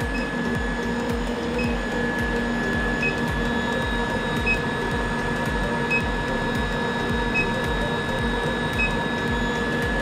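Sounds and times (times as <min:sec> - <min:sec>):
induction heater whine and hum: 0:00.0 - 0:10.0.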